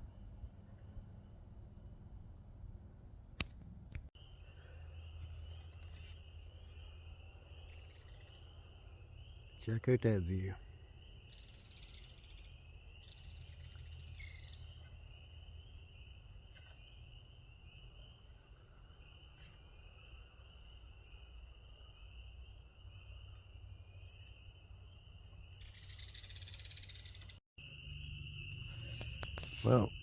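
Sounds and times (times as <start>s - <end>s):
insects chirping: 4.2s - 30.0s.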